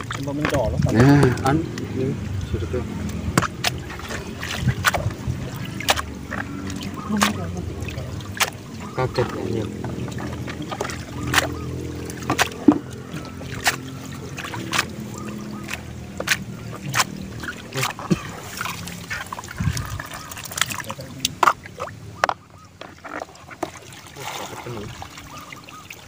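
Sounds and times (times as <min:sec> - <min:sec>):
low steady hum: 0:00.0 - 0:22.2
water trickling and splashing: 0:00.0 - 0:26.0.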